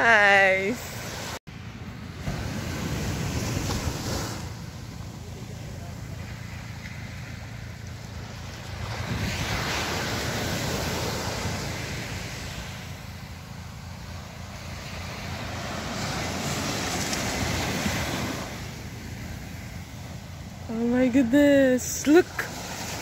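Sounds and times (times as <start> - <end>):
small waves breaking on sand: 0.0 - 23.0
wind rumbling on microphone: 0.0 - 23.0.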